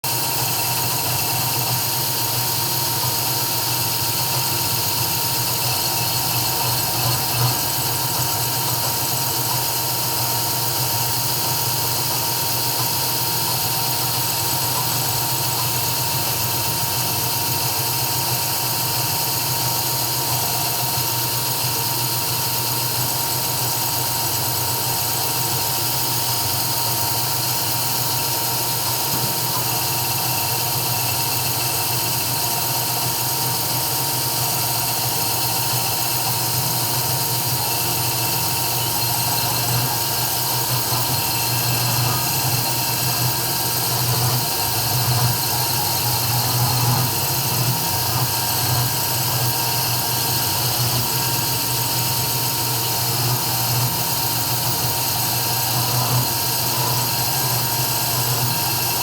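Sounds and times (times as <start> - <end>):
router spindle high whine: 0.1 - 59.0.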